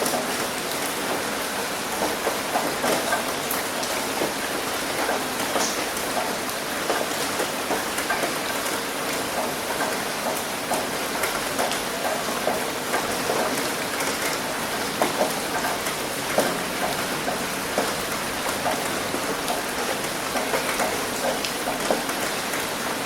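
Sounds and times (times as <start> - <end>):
raindrops ticking on surface: 0.0 - 23.0.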